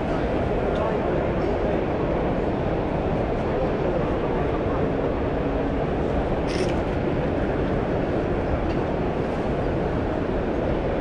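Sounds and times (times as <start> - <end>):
crowd talking in echoing hall: 0.0 - 11.0.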